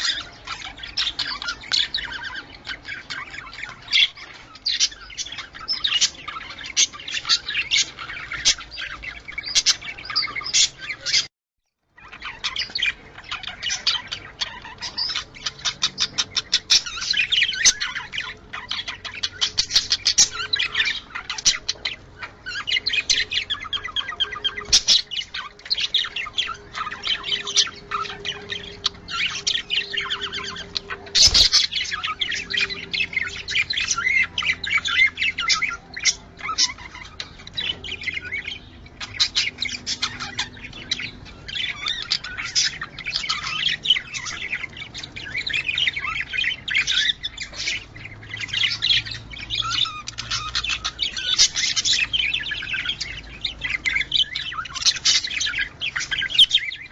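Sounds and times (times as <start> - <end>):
budgerigars chattering: 0.0 - 11.3, 12.0 - 56.9.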